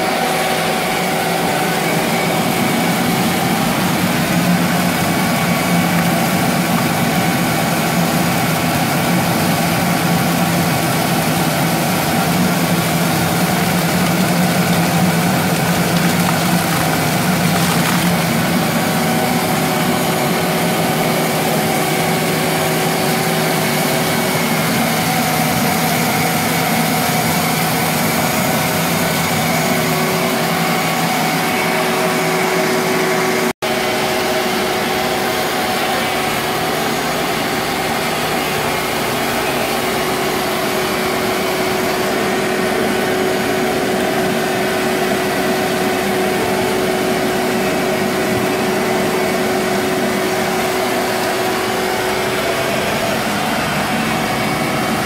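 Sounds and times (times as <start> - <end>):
shop vacuum running: 0.0 - 55.0.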